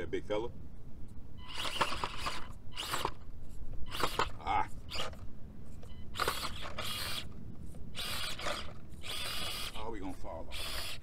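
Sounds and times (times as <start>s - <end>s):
small motor and gearbox whirring: 1.4s - 11.0s.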